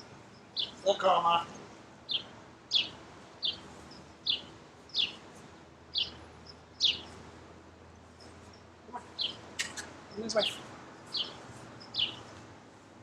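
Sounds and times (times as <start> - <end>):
bird chirping: 0.0 - 5.3, 5.9 - 7.2, 8.2 - 12.4.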